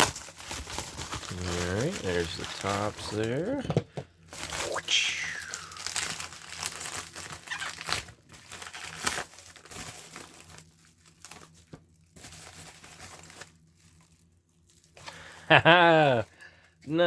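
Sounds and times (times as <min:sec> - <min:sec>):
packaging crinkling and rustling: 0:00.0 - 0:15.4.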